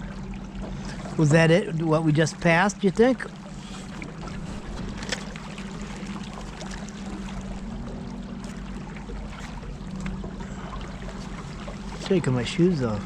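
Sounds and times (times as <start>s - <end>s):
boat motor running: 0.0s - 13.0s
water splashing against hull: 0.0s - 13.0s.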